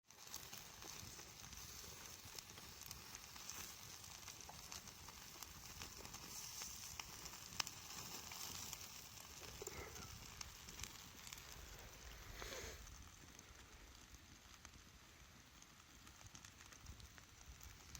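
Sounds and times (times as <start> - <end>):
campfire crackling and popping: 0.0 - 17.9
fire hiss: 0.1 - 17.9.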